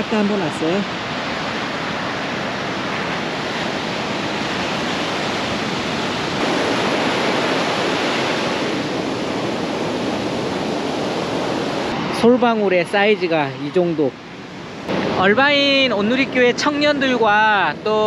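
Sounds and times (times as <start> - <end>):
ocean surf breaking on sand: 0.0 - 18.0.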